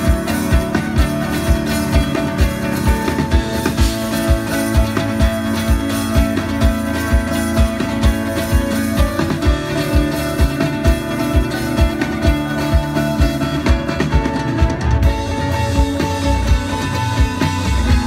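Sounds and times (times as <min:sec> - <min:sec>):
acoustic guitars playing: 0:00.0 - 0:18.0.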